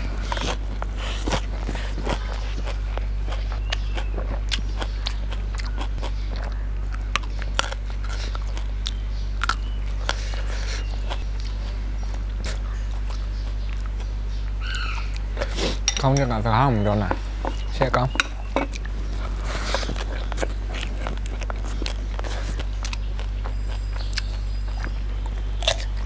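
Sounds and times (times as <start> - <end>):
chewing crunchy vegetables: 0.0 - 26.0
steady low hum: 0.0 - 26.0.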